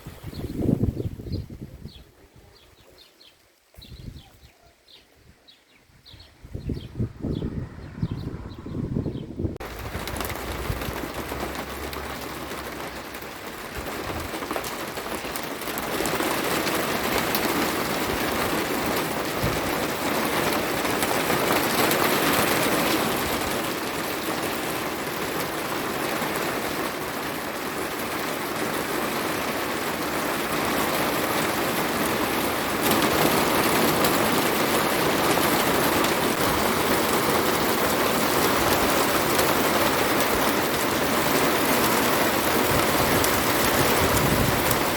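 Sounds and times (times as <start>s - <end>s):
heavy rain pouring: 7.0s - 44.9s.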